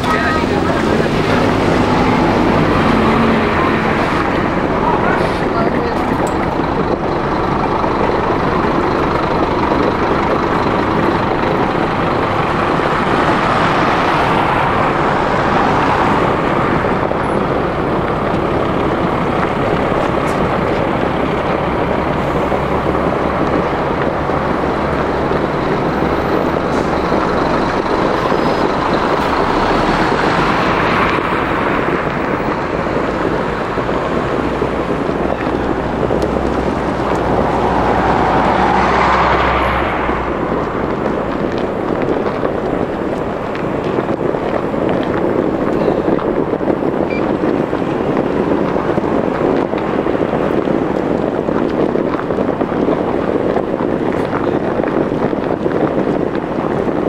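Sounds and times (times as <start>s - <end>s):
bus engine rumble: 0.0s - 57.0s
tyre and traffic noise: 0.0s - 57.0s.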